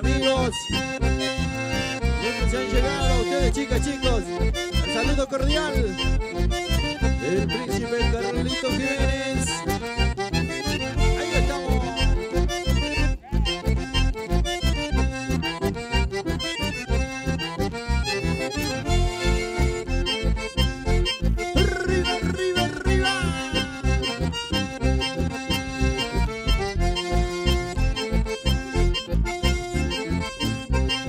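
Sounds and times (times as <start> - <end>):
accordion: 0.0 - 31.0
live band playing: 0.0 - 31.0
steady bass beat: 0.0 - 31.0.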